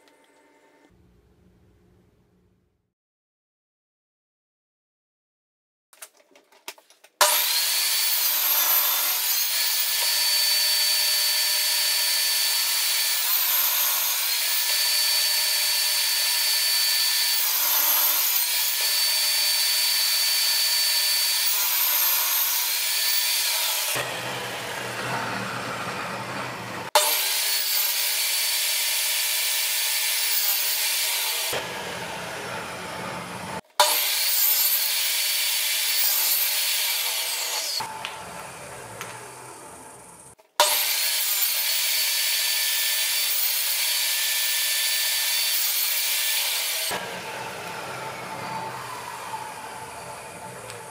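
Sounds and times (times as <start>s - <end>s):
electric power tool on wood: 7.2s - 50.9s.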